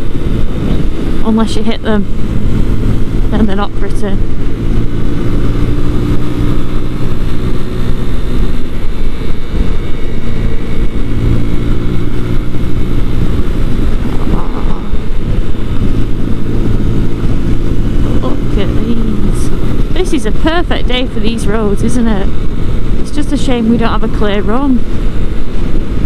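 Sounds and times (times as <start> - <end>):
motorcycle engine cruising: 0.0 - 26.0
wind rumble on microphone: 0.0 - 26.0.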